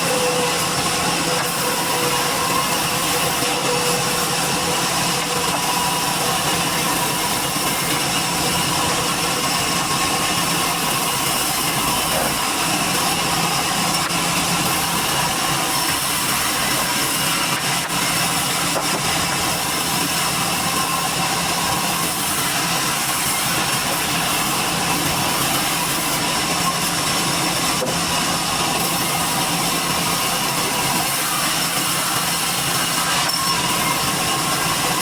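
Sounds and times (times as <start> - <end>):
sawmill machinery drone: 0.0 - 35.0.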